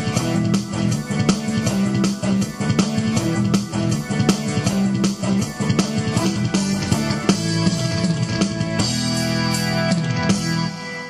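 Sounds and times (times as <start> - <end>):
bass line: 0.0 - 11.0
drum kit beat: 0.0 - 11.0.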